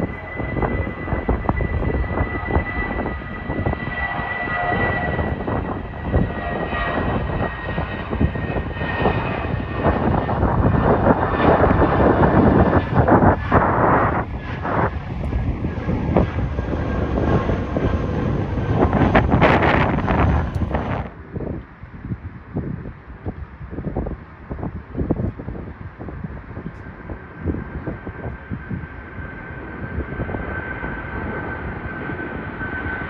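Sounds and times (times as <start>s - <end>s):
jet engine whine and rumble: 0.0s - 33.0s.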